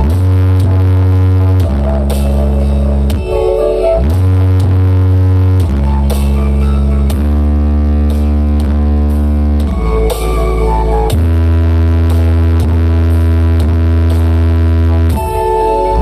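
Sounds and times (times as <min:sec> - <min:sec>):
loud electronic dance music: 0:00.0 - 0:16.0.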